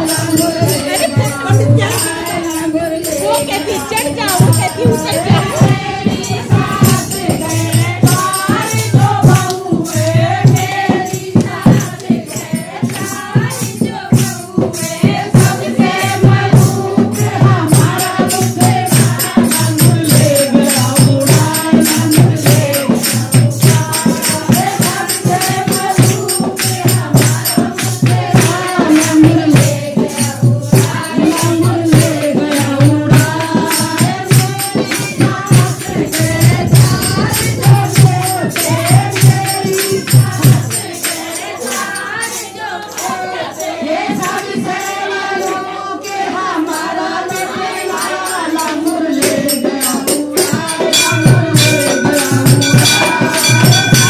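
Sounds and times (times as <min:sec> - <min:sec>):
jingling percussion: 0:00.0 - 0:54.0
rhythmic hand-clapping: 0:00.0 - 0:54.0
women singing devotional song: 0:00.0 - 0:54.0.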